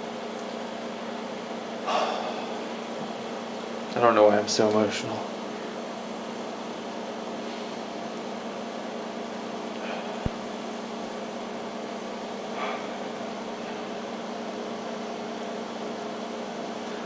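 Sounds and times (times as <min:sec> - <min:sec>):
aquarium pump hum: 0:00.0 - 0:17.0.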